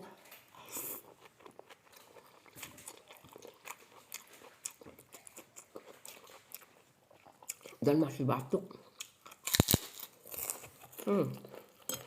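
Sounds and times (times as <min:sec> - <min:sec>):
person chewing crisp crackers: 0:00.4 - 0:07.8, 0:08.8 - 0:12.0.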